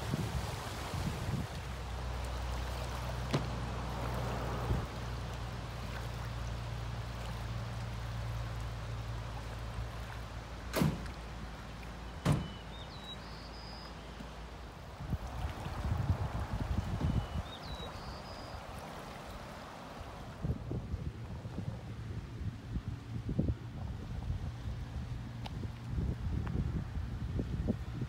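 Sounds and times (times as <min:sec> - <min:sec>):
river water lapping at bank: 0:00.0 - 0:28.0.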